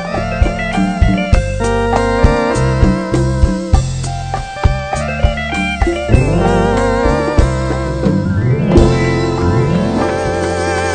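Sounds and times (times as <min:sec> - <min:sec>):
bass guitar: 0:00.0 - 0:10.9
congas: 0:00.0 - 0:10.9
electric guitar: 0:00.0 - 0:10.9
keyboard: 0:00.0 - 0:10.9.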